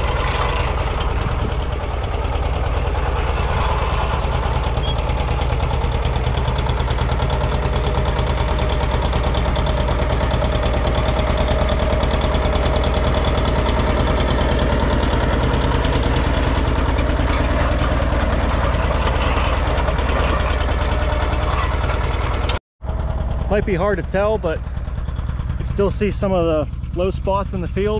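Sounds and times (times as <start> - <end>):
diesel tractor engine under load: 0.0 - 27.9.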